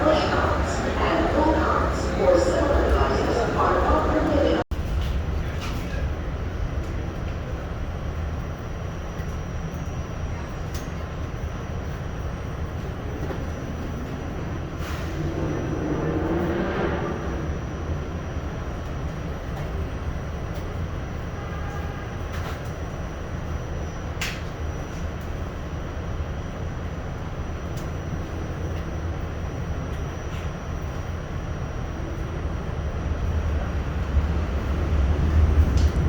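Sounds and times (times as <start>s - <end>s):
subway train rumble: 0.0s - 36.0s.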